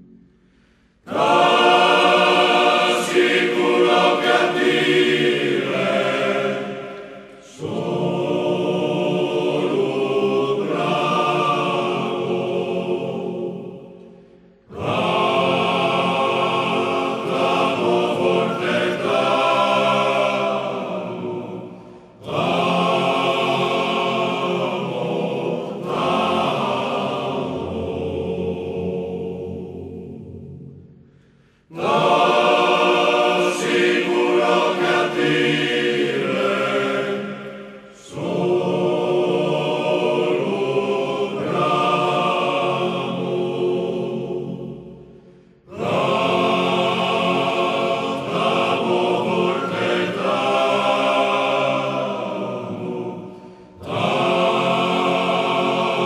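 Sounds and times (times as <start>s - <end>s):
group singing in harmony: 0.0s - 56.0s.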